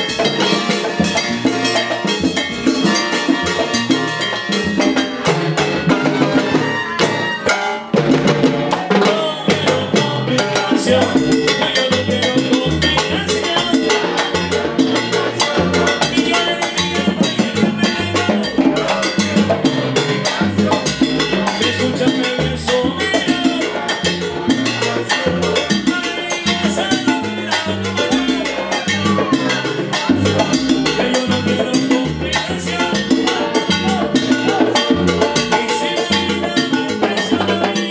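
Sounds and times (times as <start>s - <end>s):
salsa band playing: 0.0s - 37.9s
trombone: 0.0s - 37.9s.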